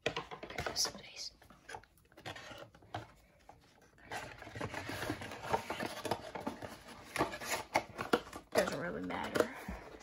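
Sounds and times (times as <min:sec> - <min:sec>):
trading cards rustling: 0:00.4 - 0:10.0.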